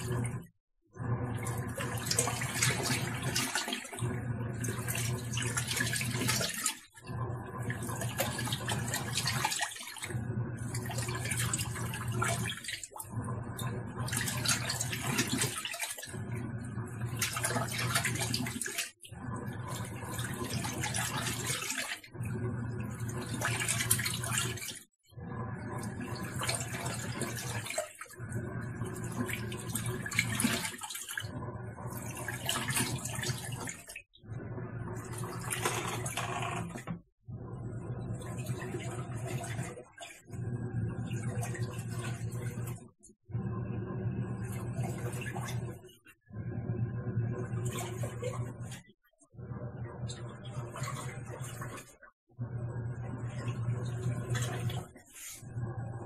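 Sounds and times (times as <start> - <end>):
washing machine motor humming: 0.0 - 56.0
water churning: 0.0 - 56.0.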